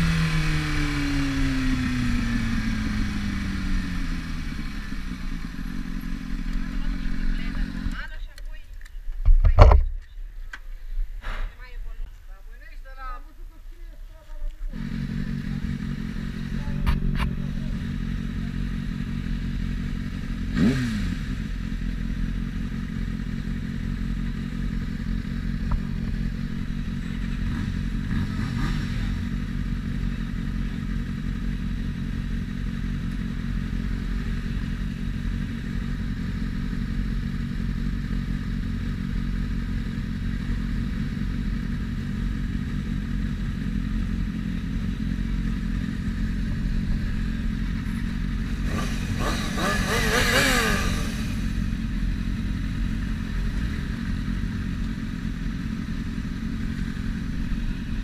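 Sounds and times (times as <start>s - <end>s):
motorcycle engine idling: 0.0s - 9.2s, 12.0s - 58.0s.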